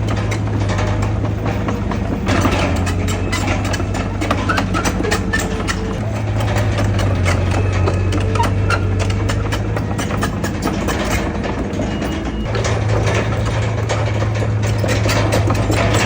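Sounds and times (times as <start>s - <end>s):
bulldozer diesel engine drone: 0.0s - 16.0s
metallic clicking and clanking: 0.0s - 16.0s.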